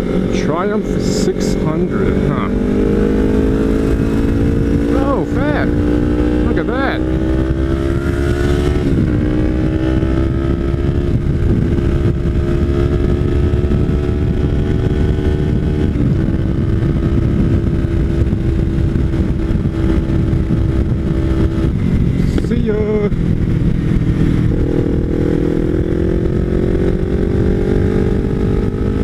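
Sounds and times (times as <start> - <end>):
motorcycle engine running: 0.0 - 29.0
wind rush on microphone: 0.0 - 29.0.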